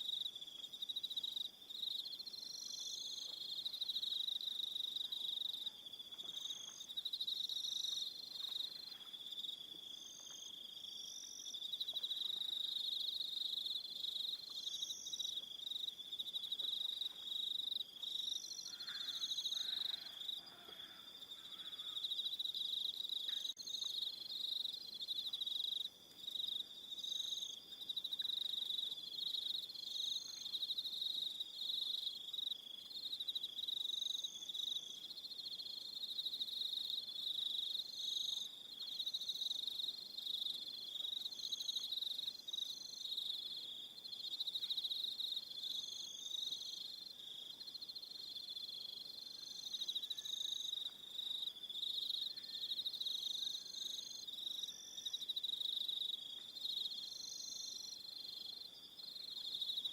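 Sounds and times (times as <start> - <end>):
cricket chirps: 0.0 - 59.9
crickets trilling: 0.1 - 59.9.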